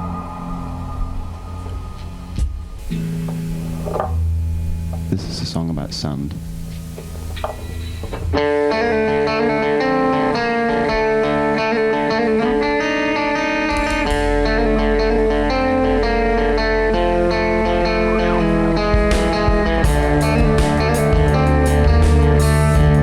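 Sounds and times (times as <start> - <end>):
deep low musical part: 0.0 - 23.0
plucked guitar music: 2.8 - 23.0.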